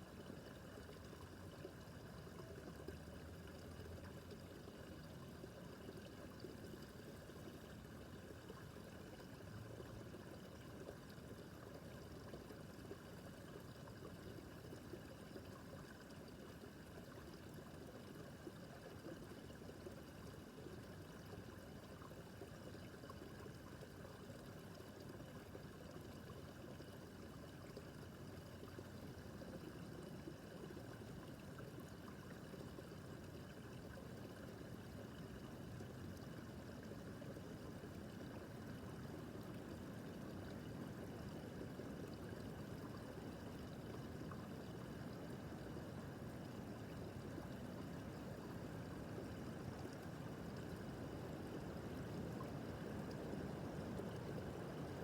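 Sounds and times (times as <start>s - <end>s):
faint brook babbling over stones: 0.0s - 55.0s.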